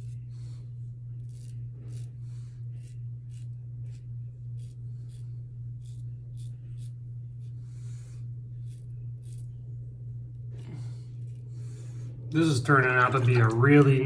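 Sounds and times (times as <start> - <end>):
razor scraping stubble: 0.0 - 9.7, 10.3 - 14.0
low electrical hum: 0.0 - 14.0.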